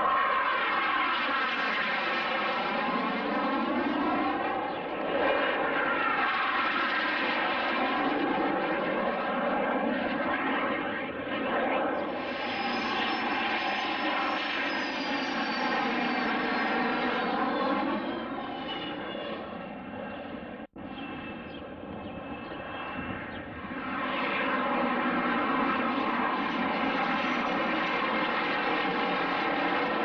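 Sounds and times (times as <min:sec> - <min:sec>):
aircraft engines passing overhead: 0:00.0 - 0:30.0.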